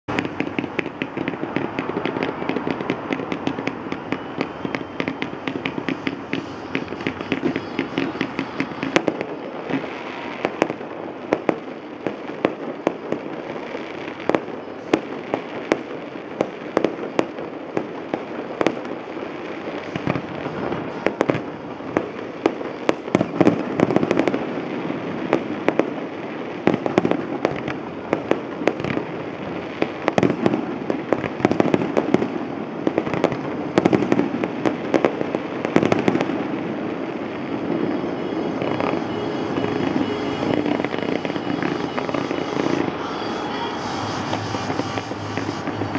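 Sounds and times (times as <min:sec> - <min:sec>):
distant fireworks bangs and crackling: 0:00.1 - 0:45.9.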